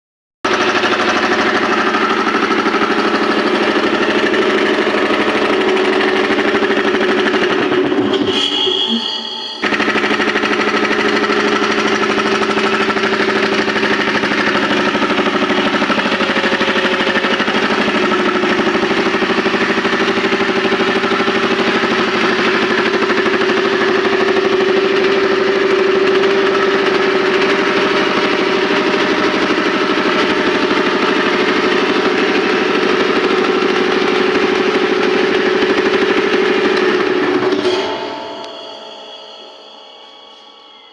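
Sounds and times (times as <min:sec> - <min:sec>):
air compressor chugging: 0:00.5 - 0:40.7.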